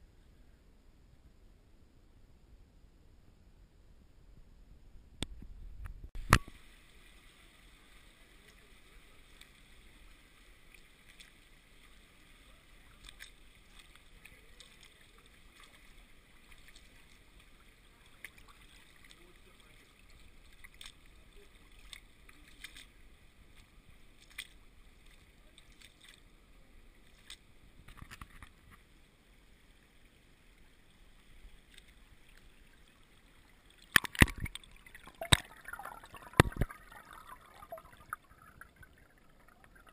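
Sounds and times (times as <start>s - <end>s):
creek water trickling over rock: 6.2s - 39.9s
small water splashes: 6.2s - 39.9s.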